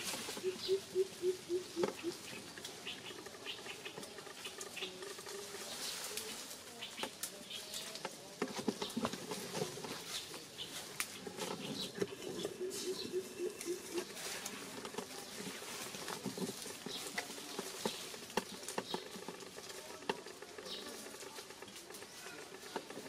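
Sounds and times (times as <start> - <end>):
dry leaves rustling: 0.0 - 23.0.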